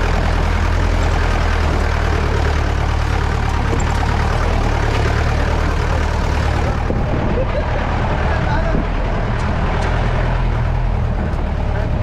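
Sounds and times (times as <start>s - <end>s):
jeep engine running at low revs: 0.0s - 12.0s.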